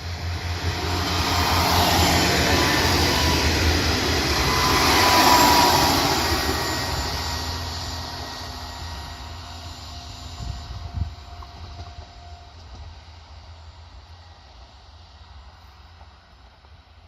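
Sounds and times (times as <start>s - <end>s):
freight train passing: 0.0s - 17.0s.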